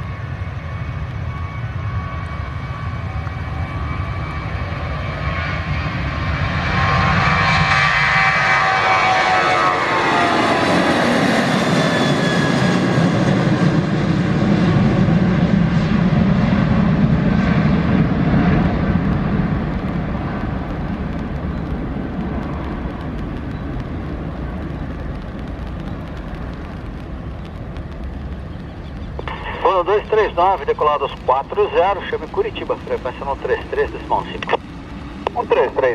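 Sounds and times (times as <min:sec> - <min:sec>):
jet engines roaring at takeoff: 0:00.0 - 0:35.9.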